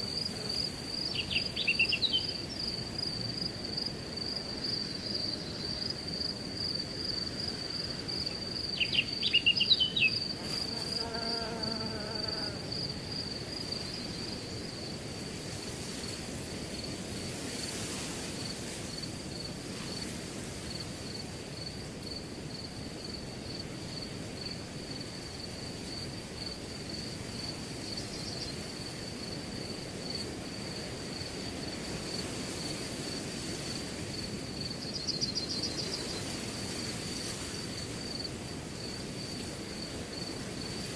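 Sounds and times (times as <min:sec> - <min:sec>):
crickets chirping: 0:00.0 - 0:40.9
wind through grass: 0:00.0 - 0:40.9.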